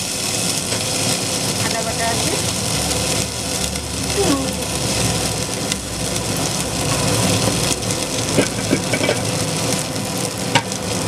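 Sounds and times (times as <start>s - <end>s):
fan-like hum: 0.0s - 11.0s
food frying in oil: 0.0s - 11.0s.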